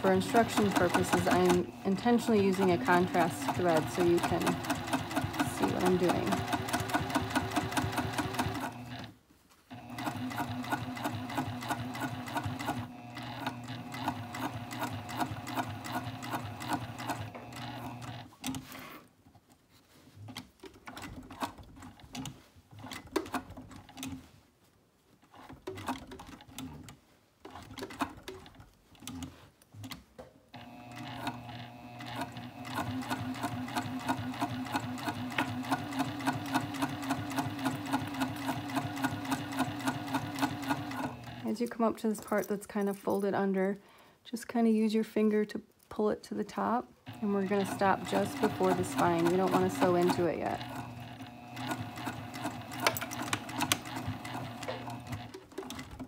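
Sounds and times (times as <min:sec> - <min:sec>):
sewing machine stitching: 0:00.0 - 0:19.1, 0:20.3 - 0:24.3, 0:25.2 - 0:30.0, 0:30.6 - 0:41.8, 0:47.0 - 0:56.0.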